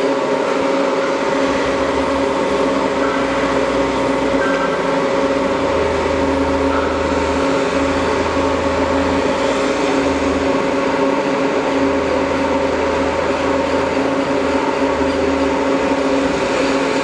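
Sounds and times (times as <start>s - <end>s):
deeper machine drone: 0.0s - 17.0s
lathe mechanical hum: 0.0s - 17.0s.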